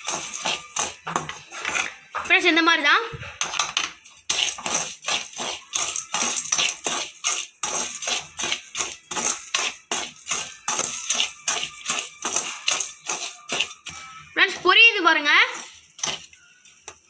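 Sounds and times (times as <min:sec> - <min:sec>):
skimmer scraping salt in pan: 0:00.0 - 0:02.1, 0:04.1 - 0:17.0.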